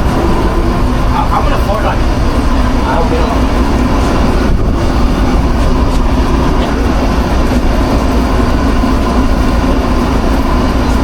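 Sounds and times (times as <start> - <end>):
constant hum: 0.0 - 11.0.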